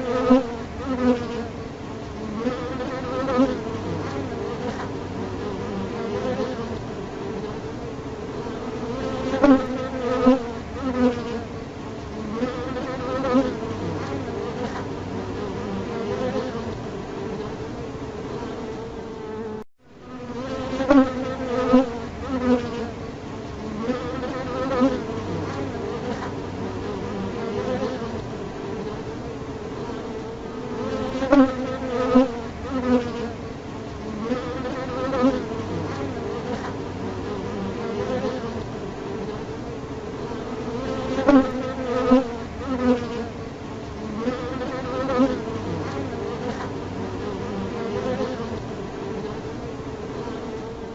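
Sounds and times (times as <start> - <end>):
bee buzzing in flight: 0.0 - 50.9.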